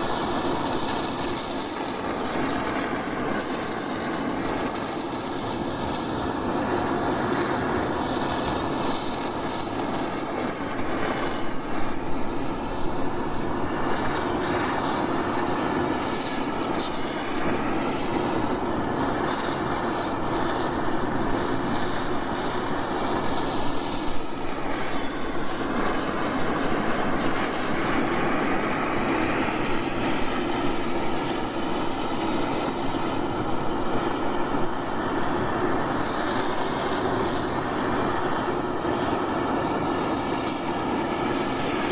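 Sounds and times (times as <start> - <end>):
torch hissing: 0.0 - 41.9.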